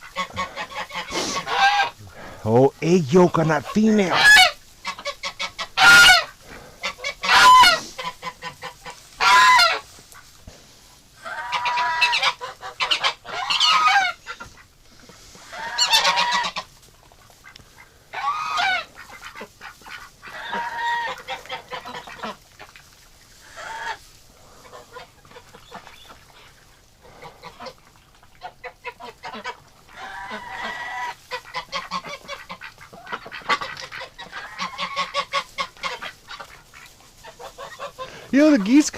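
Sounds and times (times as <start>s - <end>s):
geese honking: 0.0s - 10.4s, 11.2s - 38.9s.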